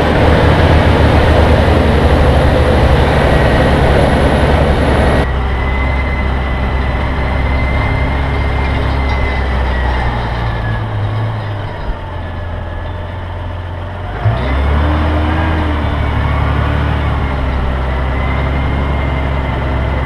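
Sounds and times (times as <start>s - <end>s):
heavy engine running: 0.0s - 20.0s.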